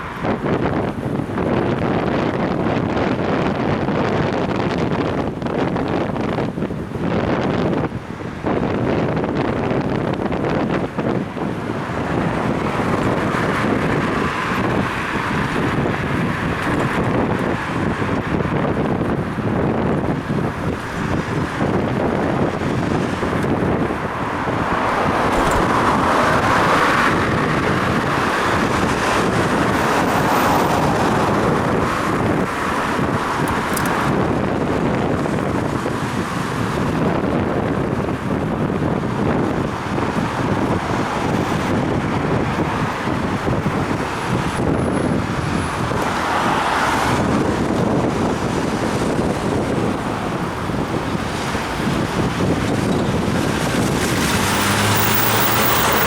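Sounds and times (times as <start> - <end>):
road traffic: 0.0 - 56.0
wind rushing over microphone: 0.0 - 56.0.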